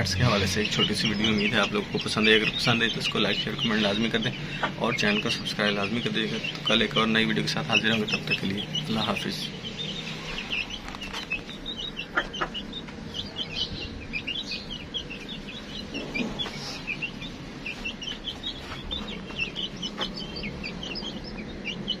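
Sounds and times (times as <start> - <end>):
hens clucking: 0.0 - 22.0
small birds chirping: 0.0 - 22.0.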